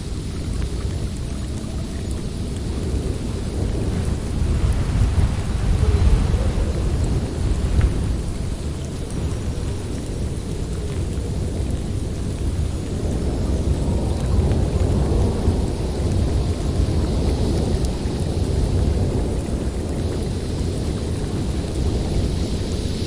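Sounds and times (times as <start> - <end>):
blizzard wind rushing: 0.0 - 23.0.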